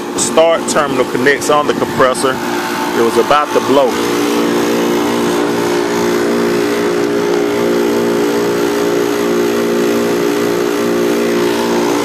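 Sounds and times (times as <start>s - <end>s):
machine mechanical hum: 0.0s - 12.0s.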